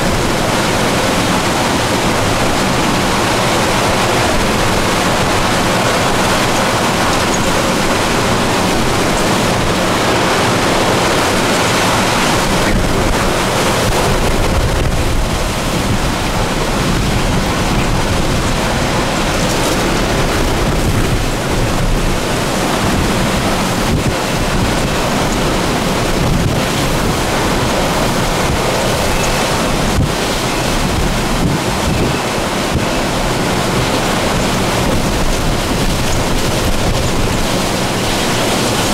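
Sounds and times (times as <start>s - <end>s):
strong wind buffeting microphone: 0.0s - 38.9s.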